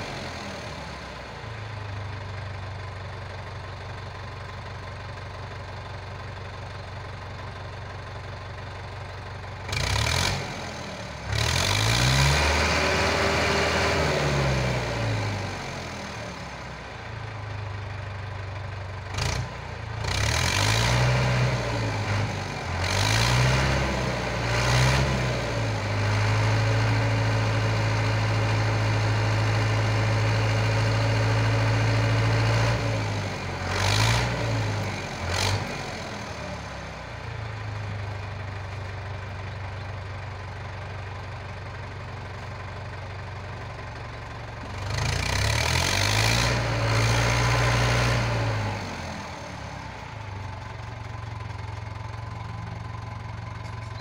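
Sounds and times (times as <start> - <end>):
tractor engine revving: 0.0 - 16.6, 17.3 - 54.0.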